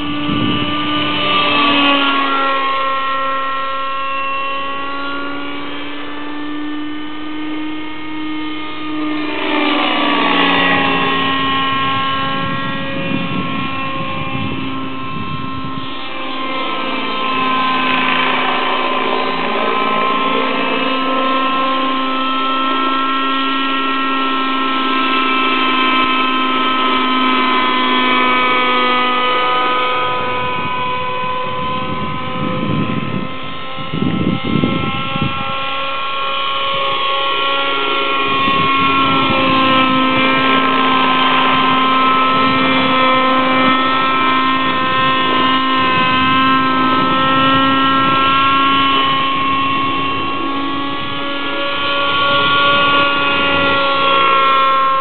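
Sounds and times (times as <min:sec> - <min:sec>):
model helicopter engine whine: 0:00.0 - 0:55.0.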